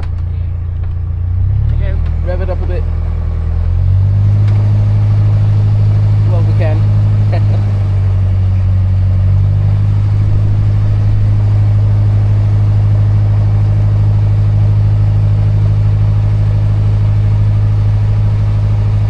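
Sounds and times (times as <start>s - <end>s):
diesel boat engine humming: 0.0s - 19.0s.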